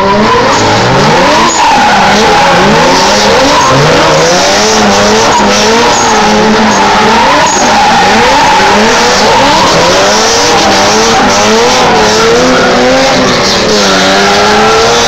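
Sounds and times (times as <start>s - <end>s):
car engines revving: 0.0s - 15.0s
tyres skidding and squealing: 0.0s - 15.0s.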